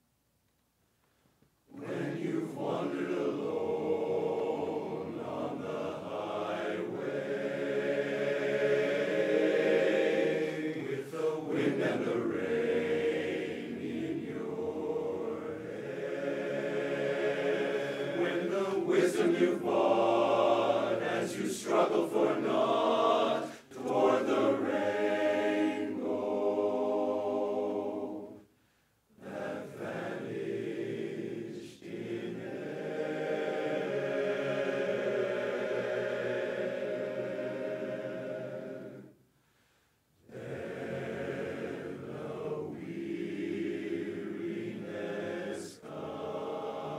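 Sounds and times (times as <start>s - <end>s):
male chorus singing a cappella: 1.7s - 28.5s, 29.2s - 39.2s, 40.3s - 46.9s.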